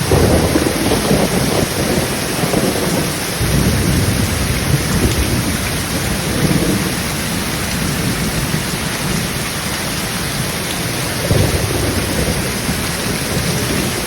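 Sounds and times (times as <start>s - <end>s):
heavy rain: 0.0s - 14.0s
low rolling thunder: 0.0s - 14.0s.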